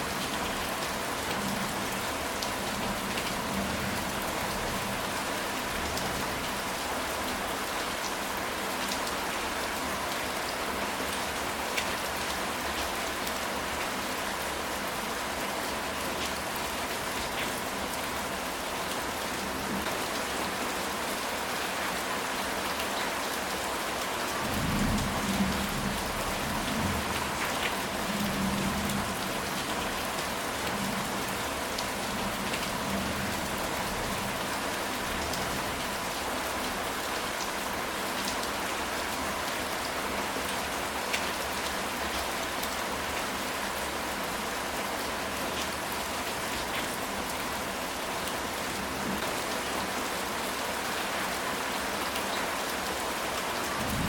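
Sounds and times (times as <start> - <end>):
rain on a tile roof: 0.0 - 54.0.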